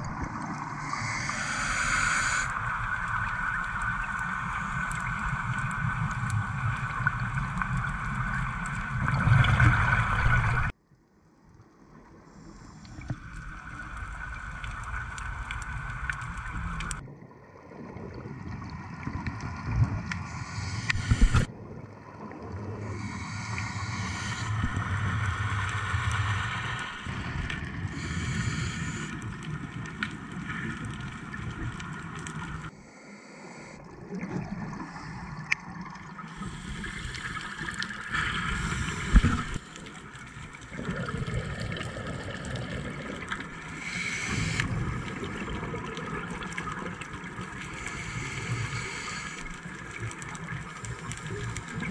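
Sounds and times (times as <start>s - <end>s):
exhaled bubbles gurgling: 0.0s - 10.7s, 12.9s - 32.7s, 33.8s - 51.9s.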